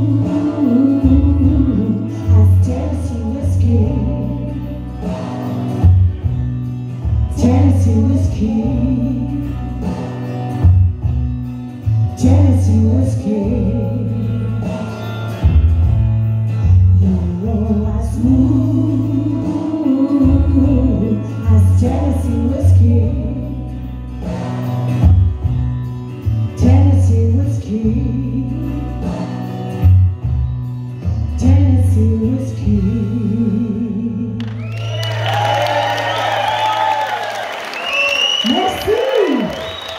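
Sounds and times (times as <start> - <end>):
woman singing country song: 0.0 - 10.9, 11.8 - 15.6, 16.5 - 30.2, 30.9 - 35.0
bass and guitar accompaniment: 0.0 - 39.9.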